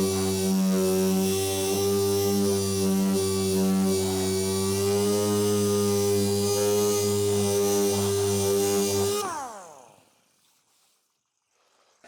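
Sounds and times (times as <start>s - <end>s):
power tool motor whining: 0.0s - 10.0s.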